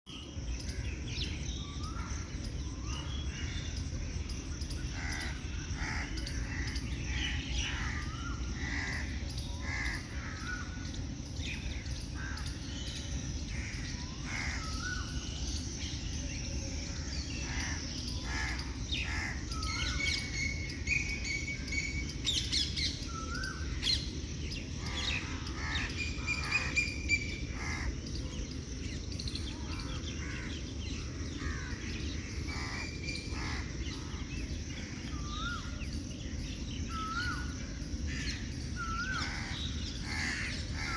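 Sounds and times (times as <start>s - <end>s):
birds chirping and calling: 0.1s - 40.9s
low background noise: 0.1s - 40.9s.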